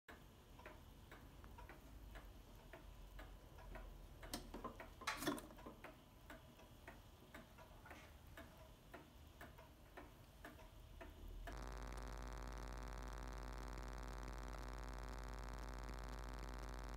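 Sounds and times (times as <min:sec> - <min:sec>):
clock pendulum ticking: 0:00.1 - 0:16.9.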